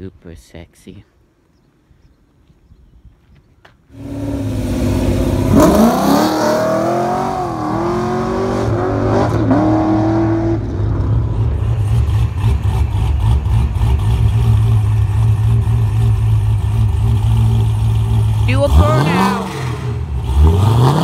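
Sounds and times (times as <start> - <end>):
engine rumbling low: 3.8 - 21.0
car engine revving: 4.0 - 21.0.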